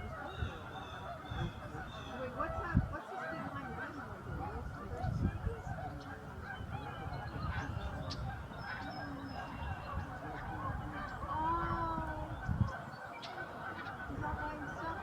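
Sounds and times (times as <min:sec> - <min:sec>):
drawn-out goose call: 0:00.0 - 0:15.0
flock of geese honking: 0:00.0 - 0:15.0.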